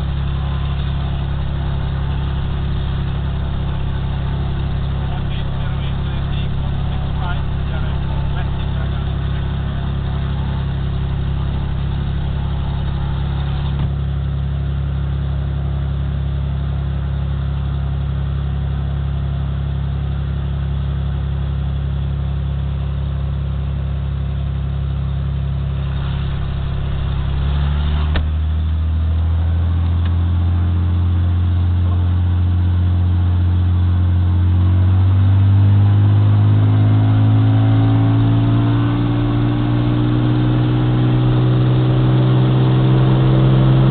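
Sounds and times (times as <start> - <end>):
propeller plane engine from cabin: 0.0 - 43.9.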